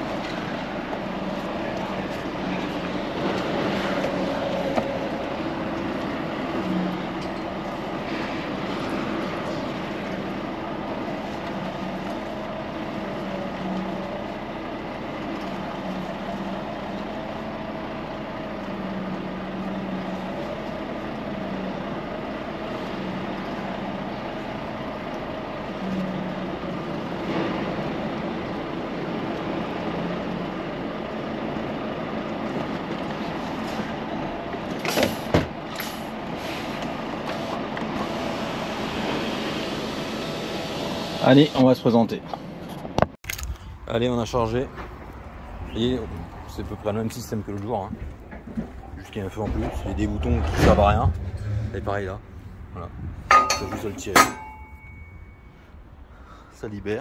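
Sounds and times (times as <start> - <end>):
engine droning: 0.0 - 57.0.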